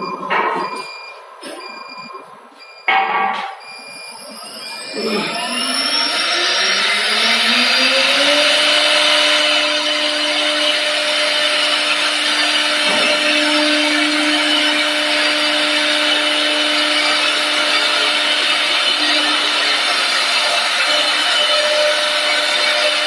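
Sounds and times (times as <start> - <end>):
lathe motor whine: 4.2 - 23.0.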